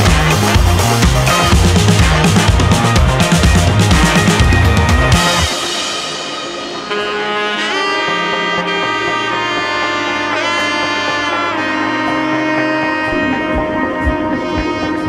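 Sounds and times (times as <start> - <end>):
saxophone-like wind instrument music: 0.0 - 15.0.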